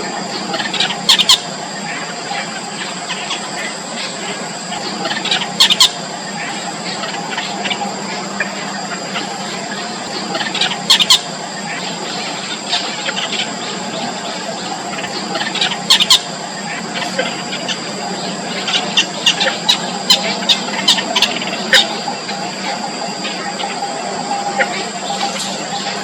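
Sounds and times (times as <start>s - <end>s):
nestlings squeaky begging calls: 0.3s - 26.0s.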